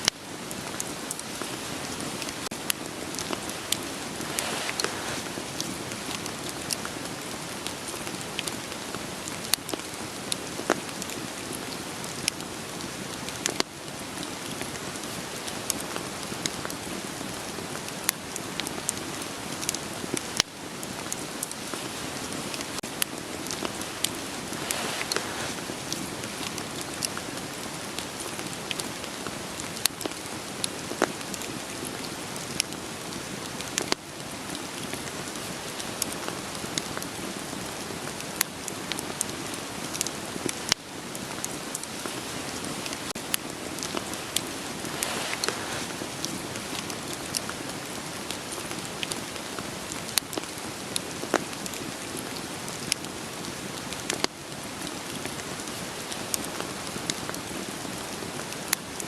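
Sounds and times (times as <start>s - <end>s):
steady rain falling: 0.0s - 59.0s
wood fire crackling and popping: 0.5s - 34.0s, 34.6s - 53.4s.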